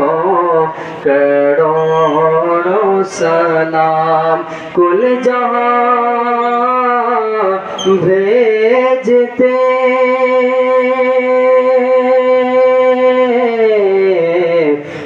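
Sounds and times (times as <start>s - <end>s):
man singing a long held note: 0.0s - 15.0s.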